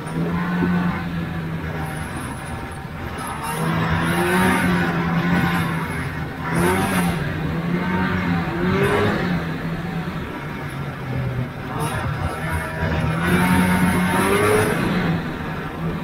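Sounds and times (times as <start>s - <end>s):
snowmobile engine droning: 0.0s - 16.0s.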